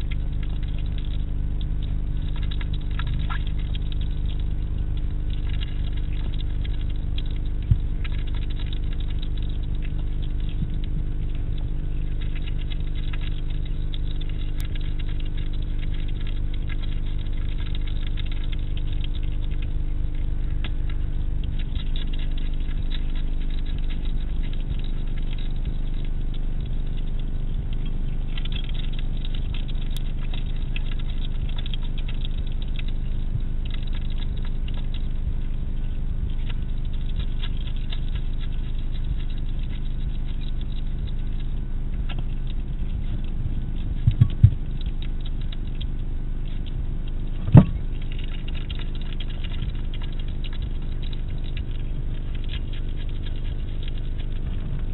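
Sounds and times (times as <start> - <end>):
hedgehog crunching food: 0.0 - 54.9
steady low hum: 0.0 - 54.9.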